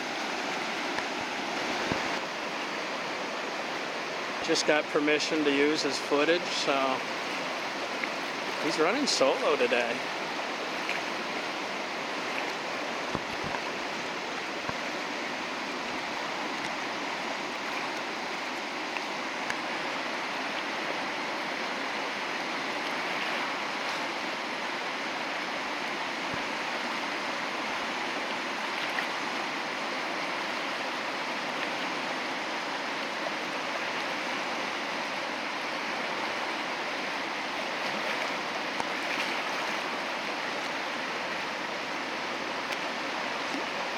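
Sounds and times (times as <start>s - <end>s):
whitewater rushing: 0.0s - 43.9s.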